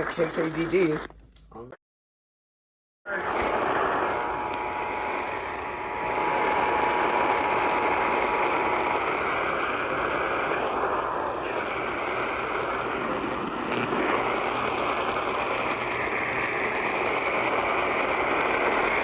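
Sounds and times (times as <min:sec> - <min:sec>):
radio static: 0:00.0 - 0:01.1, 0:03.1 - 0:19.0.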